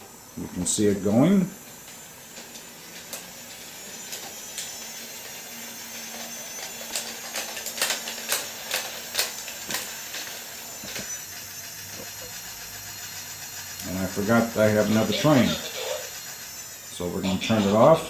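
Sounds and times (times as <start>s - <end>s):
toy train motor whir: 0.0s - 18.0s.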